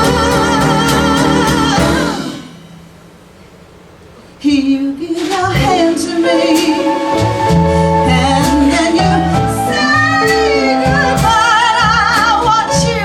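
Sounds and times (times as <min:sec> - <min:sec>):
woman singing: 0:00.0 - 0:02.6, 0:04.4 - 0:13.0
backing music: 0:00.0 - 0:03.0, 0:05.1 - 0:13.0.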